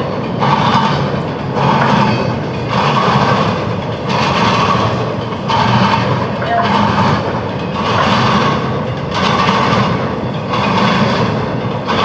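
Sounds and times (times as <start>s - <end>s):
train wheels clattering: 0.0s - 12.0s.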